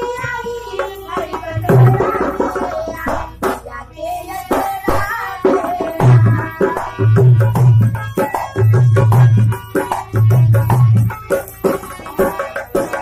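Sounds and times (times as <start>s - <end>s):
dholak drum fast rhythm: 0.0s - 13.0s
harmonium held notes: 0.0s - 13.0s.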